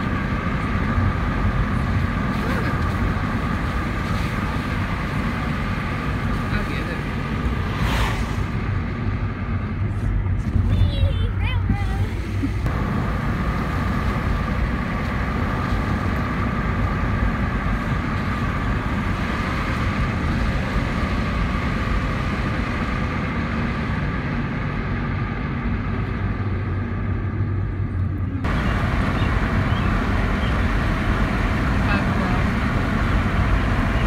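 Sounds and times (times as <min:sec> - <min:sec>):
car road noise from inside: 0:00.0 - 0:34.0.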